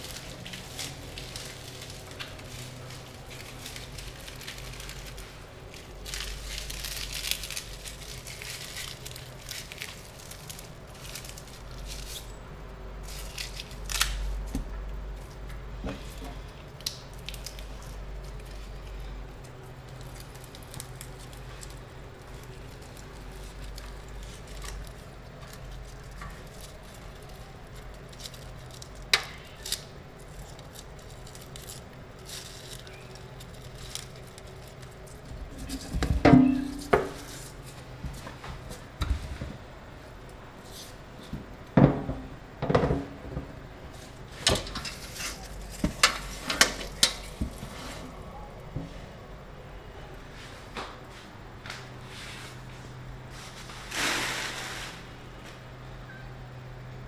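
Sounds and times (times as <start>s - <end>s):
wet leaves rustling and crinkling: 0.0s - 41.3s, 43.8s - 49.1s, 50.2s - 55.7s.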